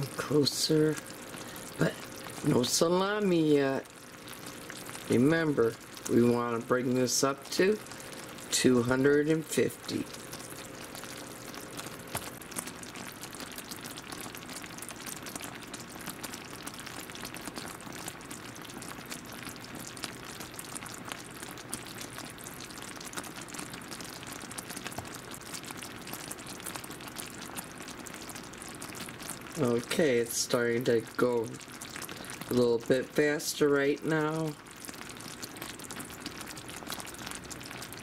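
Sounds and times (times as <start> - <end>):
syrup boiling with crackles: 0.0 - 38.0.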